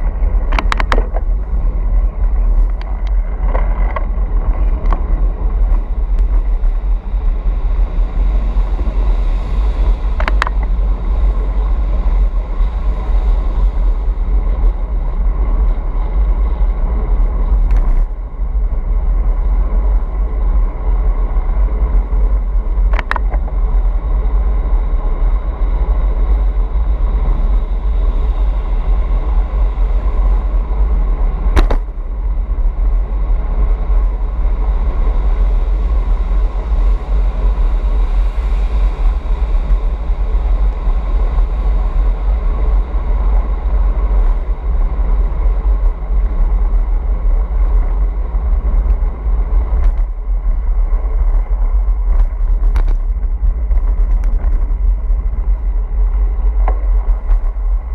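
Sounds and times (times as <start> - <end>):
low rumble in road tunnel: 0.0 - 57.9.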